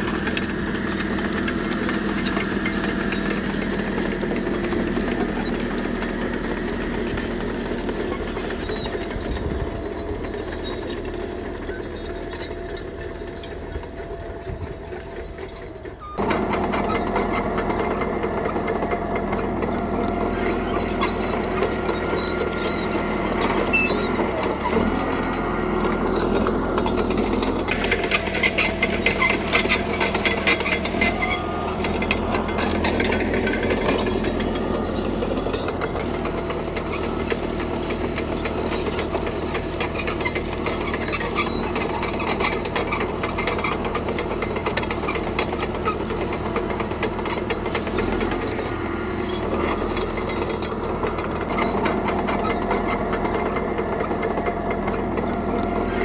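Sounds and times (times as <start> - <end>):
bulldozer diesel engine under load: 0.0 - 56.0
steel tracks squealing and clattering: 0.0 - 56.0.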